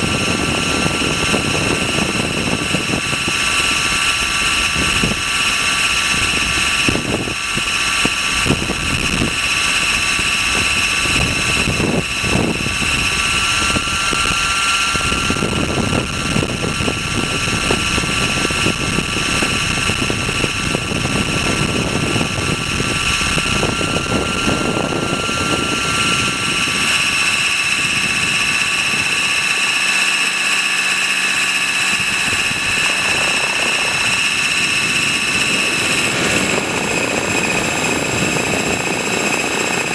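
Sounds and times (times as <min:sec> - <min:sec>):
helicopter rotor whine: 0:00.0 - 0:39.9
wind buffeting microphone: 0:00.0 - 0:39.9.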